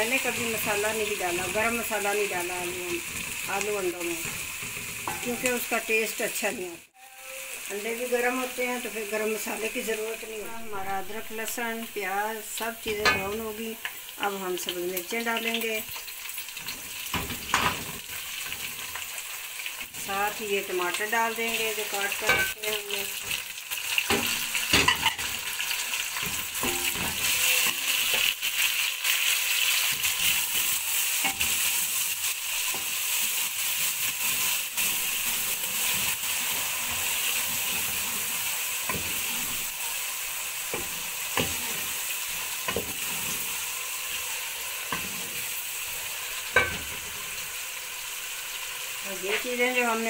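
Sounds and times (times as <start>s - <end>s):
vegetables sizzling in oil: 0.0s - 50.0s.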